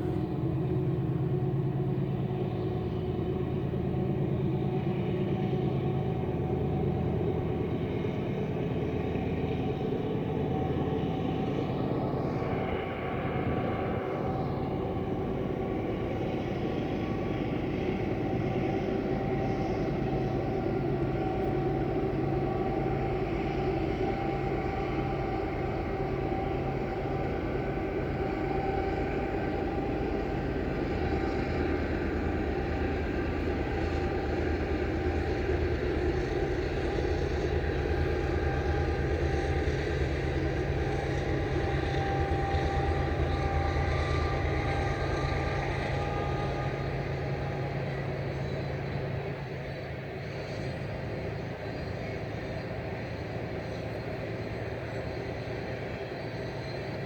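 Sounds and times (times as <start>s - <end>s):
engine-like drone with held tones: 0.0s - 57.0s.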